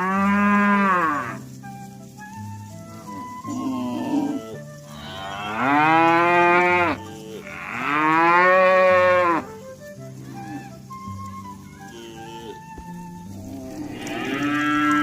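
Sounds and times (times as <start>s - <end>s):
cows mooing: 0.0s - 1.5s, 3.0s - 9.5s, 10.2s - 10.8s, 11.6s - 15.0s.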